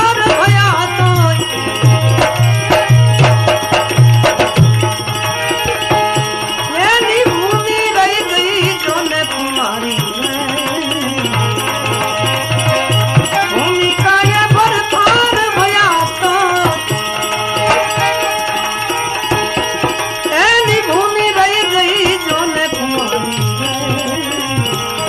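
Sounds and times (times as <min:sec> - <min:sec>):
ornamented devotional melody: 0:00.0 - 0:25.0
tabla beat: 0:00.0 - 0:25.0.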